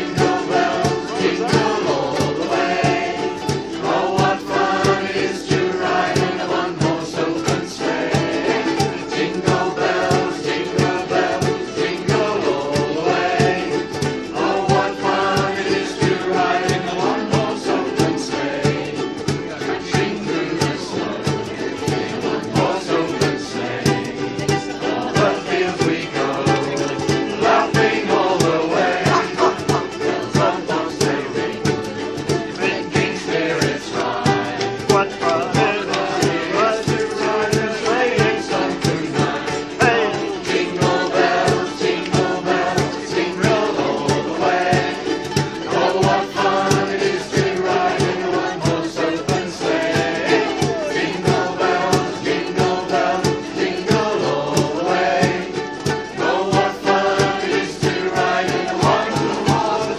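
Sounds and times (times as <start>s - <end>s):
group singing: 0.0s - 59.9s
ukulele ensemble strumming: 0.0s - 59.9s.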